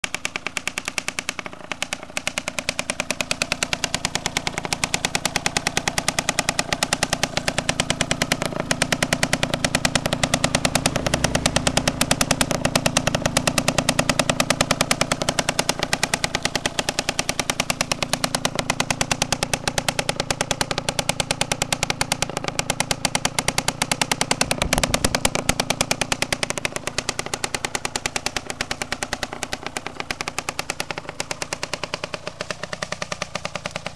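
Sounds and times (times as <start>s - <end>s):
two-stroke motorcycle engine running: 0.0s - 33.9s.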